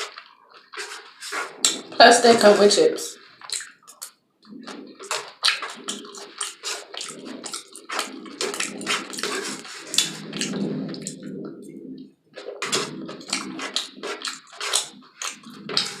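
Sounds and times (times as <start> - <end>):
wet chewing: 3.2 - 16.0.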